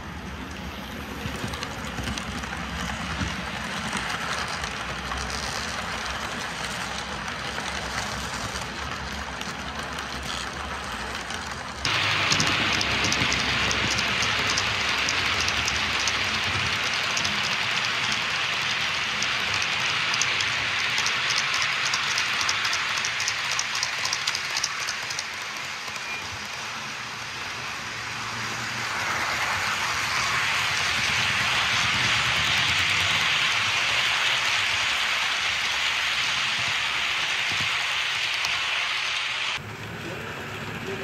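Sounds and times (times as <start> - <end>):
model train rolling hiss: 0.0 - 41.0.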